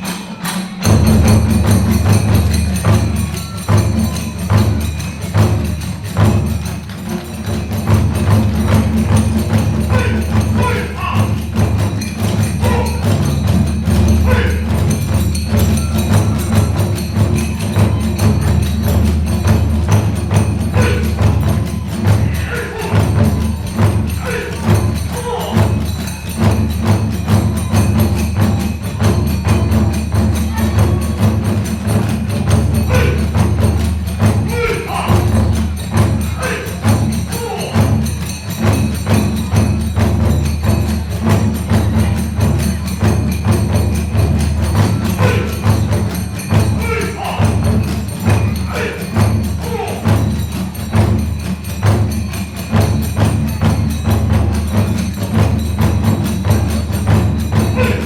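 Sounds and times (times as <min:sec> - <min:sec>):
hand cymbals clashing: 0:00.0 - 0:58.0
taiko drums beaten rapidly: 0:00.0 - 0:58.0.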